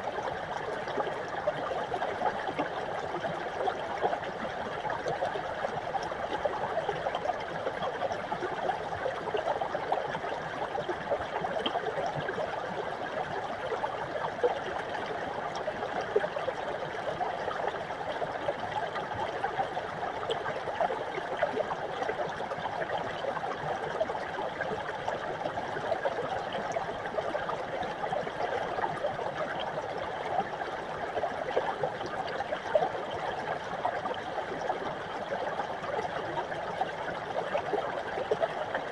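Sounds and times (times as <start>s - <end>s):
brook babbling over rocks: 0.0s - 38.9s.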